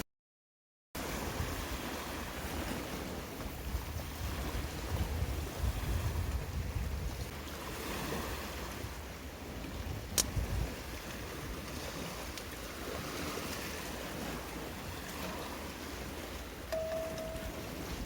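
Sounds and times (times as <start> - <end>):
wind buffeting microphone: 1.0 - 18.0.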